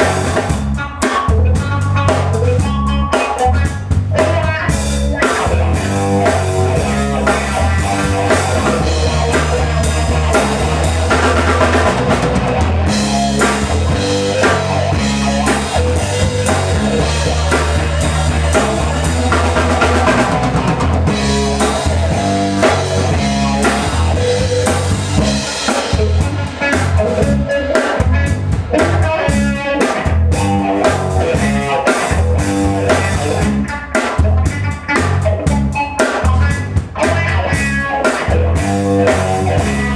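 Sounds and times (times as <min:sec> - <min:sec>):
bass guitar: 0:00.0 - 0:39.9
drum kit groove: 0:00.0 - 0:39.9
electric guitar: 0:00.0 - 0:39.9.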